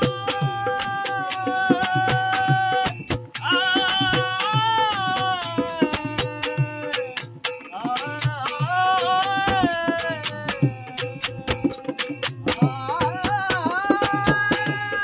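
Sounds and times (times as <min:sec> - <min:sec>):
percussion beat: 0:00.0 - 0:15.0.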